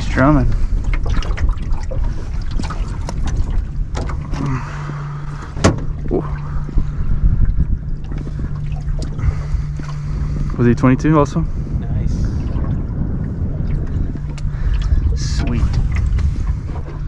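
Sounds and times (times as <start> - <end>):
fish drumming low hum: 0.0 - 17.0.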